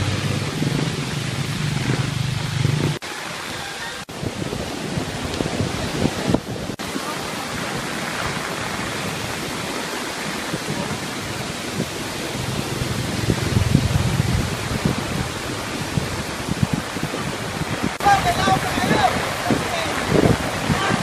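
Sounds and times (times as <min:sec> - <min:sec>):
heavy rain: 0:00.0 - 0:21.0
river rushing: 0:00.0 - 0:21.0
wind buffeting microphone: 0:00.0 - 0:21.0.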